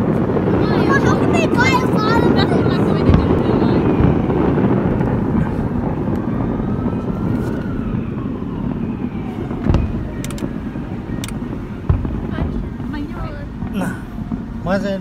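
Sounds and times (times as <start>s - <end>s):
faint firework crackles: 0.0s - 15.0s
steady low rumble: 0.0s - 15.0s
distant firework bang: 0.2s - 7.2s, 9.5s - 14.7s.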